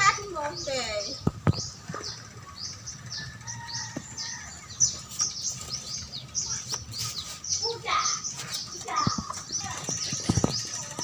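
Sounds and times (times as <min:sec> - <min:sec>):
chicks chirping: 0:00.0 - 0:11.0.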